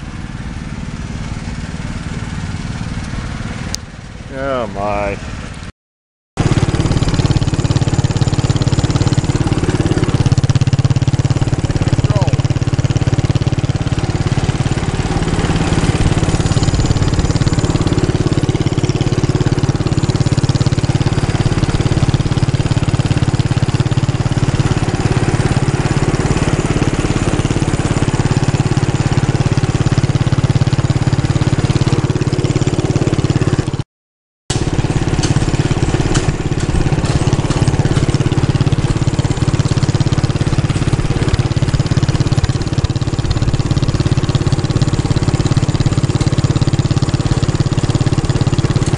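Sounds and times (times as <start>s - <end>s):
vehicle engine running steadily: 0.0s - 5.7s, 6.4s - 33.8s, 34.5s - 48.9s.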